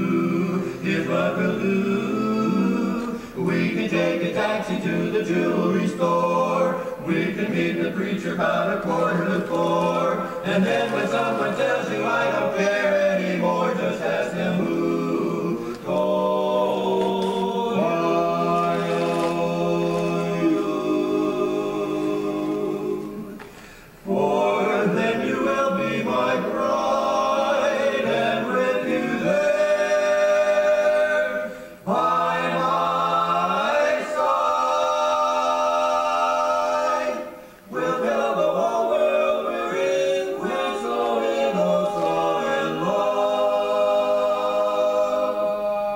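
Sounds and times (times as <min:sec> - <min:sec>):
male quartet singing a cappella: 0:00.0 - 0:45.9.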